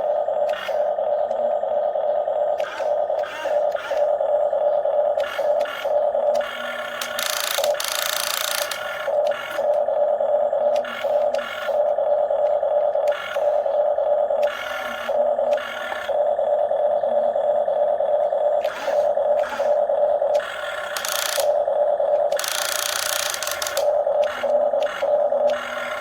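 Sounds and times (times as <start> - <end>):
electric motors whining: 0.0 - 26.0.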